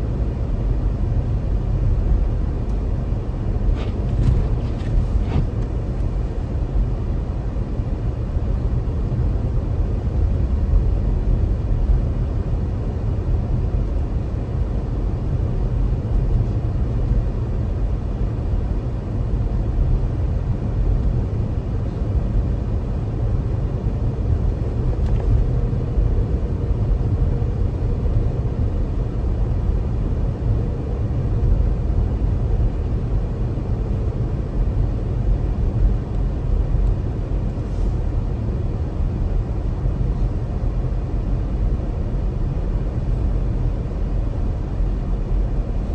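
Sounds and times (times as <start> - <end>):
car engine and tyres rumbling: 0.0 - 45.9.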